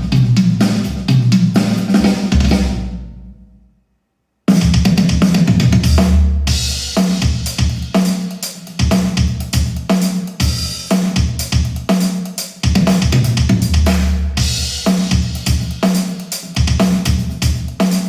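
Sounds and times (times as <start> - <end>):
drum-heavy music over speakers: 0.0 - 3.0, 4.5 - 18.0.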